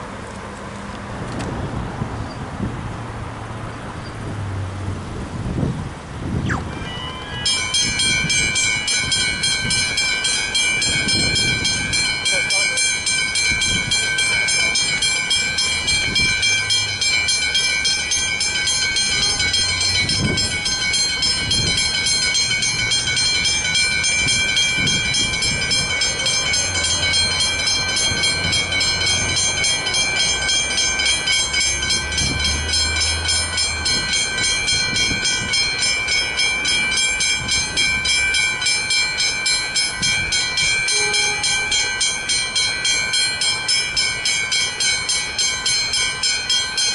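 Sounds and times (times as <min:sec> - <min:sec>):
level crossing bells ringing: 0:06.5 - 0:46.9.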